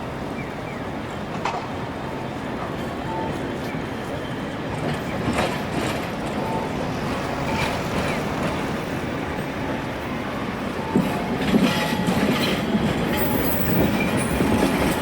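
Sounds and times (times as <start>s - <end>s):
tram rumbling over rails: 0.0s - 15.0s.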